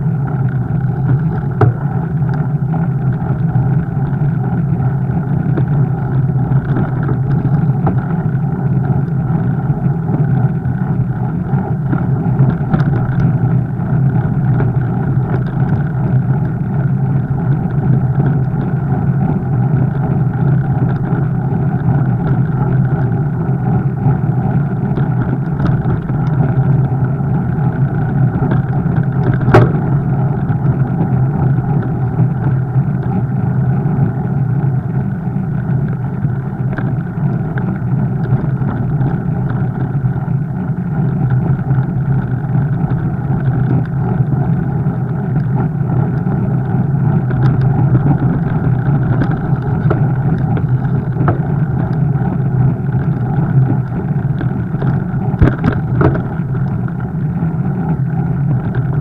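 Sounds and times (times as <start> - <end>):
bike riding rumble: 0.0 - 59.0.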